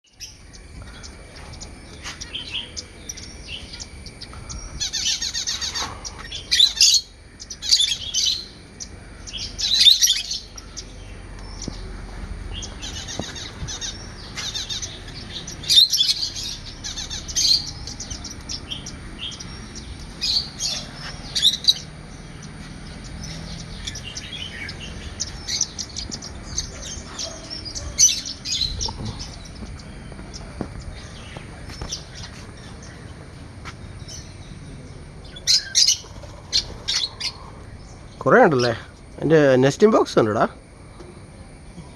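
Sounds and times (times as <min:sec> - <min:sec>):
parakeets chirping and chattering: 0:00.1 - 0:41.9.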